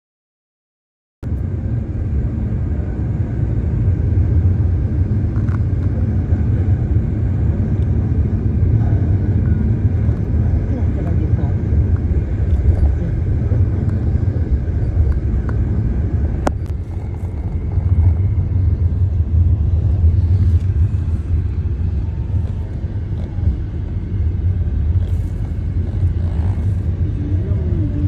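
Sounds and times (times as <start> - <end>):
vehicle rumble from inside: 1.2 - 28.0.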